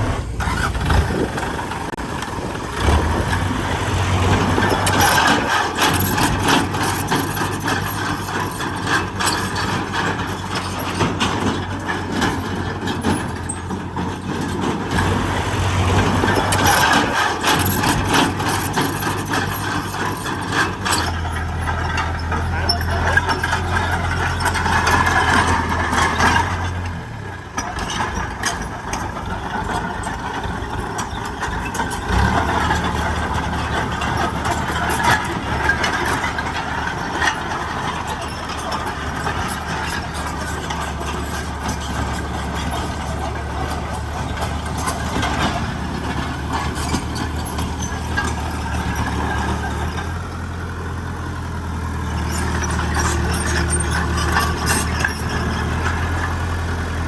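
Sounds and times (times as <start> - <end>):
diesel machinery engine hum: 0.0 - 57.0
knocks and clatter: 0.0 - 57.0.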